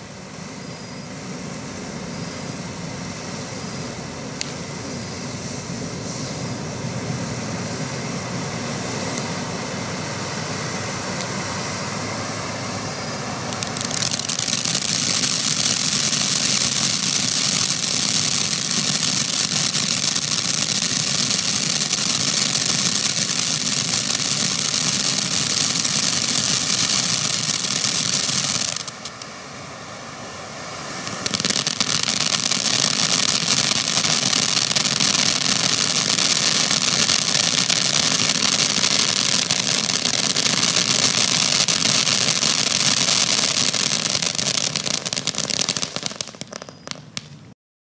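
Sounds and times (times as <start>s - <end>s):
firework crackling: 0.0s - 47.6s
firework fountain hissing: 0.0s - 47.6s.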